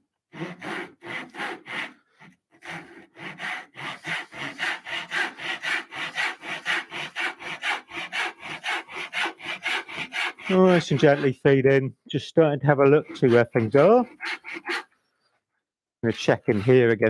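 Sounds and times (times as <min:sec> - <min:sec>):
hand saw cutting wood: 0:00.3 - 0:11.6, 0:12.7 - 0:15.0, 0:16.0 - 0:17.0.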